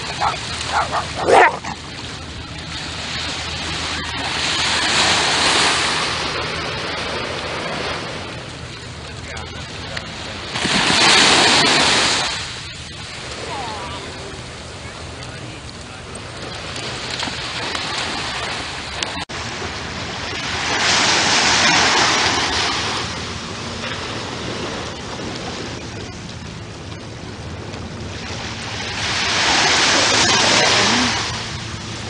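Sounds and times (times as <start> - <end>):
surf washing on beach: 0.0 - 32.0
waves breaking: 0.0 - 32.0.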